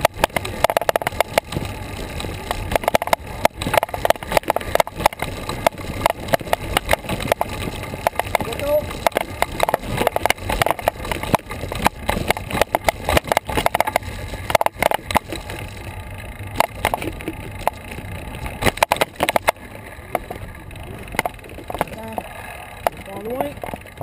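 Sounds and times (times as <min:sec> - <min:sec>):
bicycle knocks and rattles: 0:00.0 - 0:24.0
tyres rumbling: 0:00.0 - 0:24.0
wind: 0:00.0 - 0:24.0.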